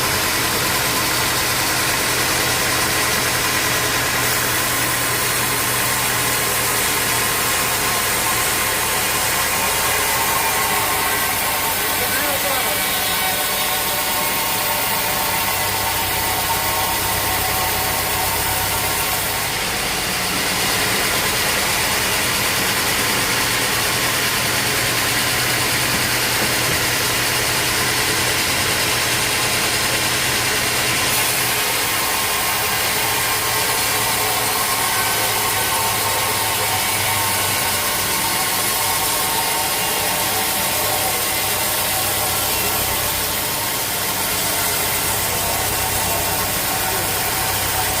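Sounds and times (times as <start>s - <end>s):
sawmill machinery drone: 0.0s - 48.0s.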